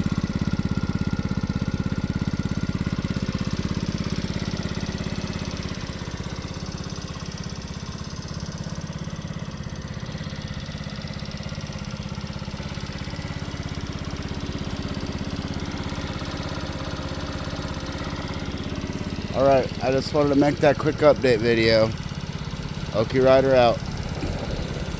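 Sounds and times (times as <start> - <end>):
minibike engine idling: 0.0 - 24.9.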